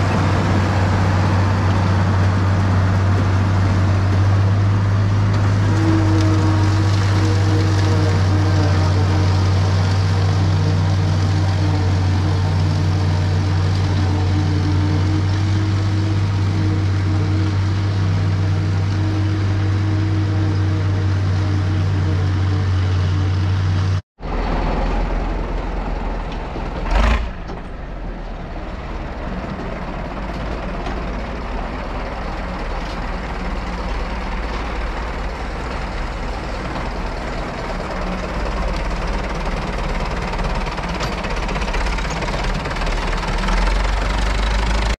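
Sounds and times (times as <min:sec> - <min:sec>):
tractor engine humming: 0:00.0 - 0:44.9.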